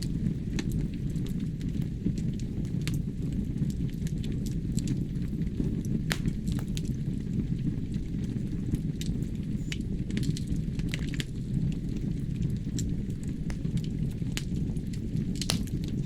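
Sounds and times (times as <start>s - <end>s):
fire crackles and pops: 0.0s - 16.0s
logs burning in fireplace: 0.0s - 16.0s.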